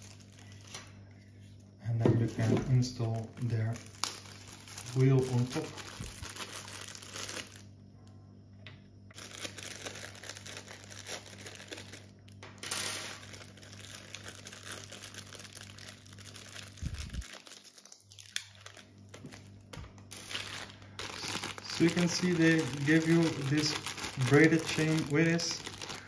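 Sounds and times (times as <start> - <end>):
plastic bags crinkling: 0.0 - 0.8, 2.2 - 7.7, 9.1 - 26.0
faint steady hum: 0.0 - 26.0.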